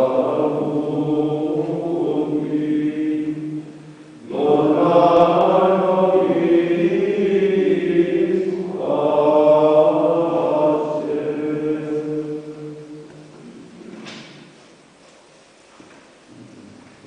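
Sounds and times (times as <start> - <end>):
voices singing a liturgical chant: 0.0 - 14.4.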